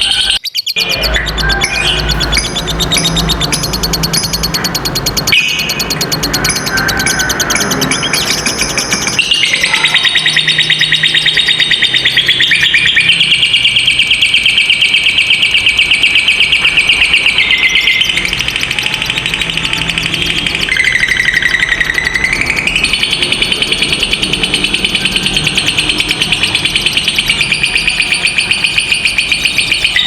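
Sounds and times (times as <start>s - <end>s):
lovebird chattering trill: 0.0s - 30.0s.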